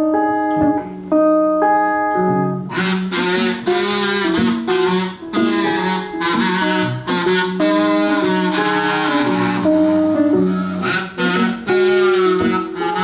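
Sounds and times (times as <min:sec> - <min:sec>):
acoustic guitar strumming: 0:00.0 - 0:13.0
harmonica: 0:02.6 - 0:13.0.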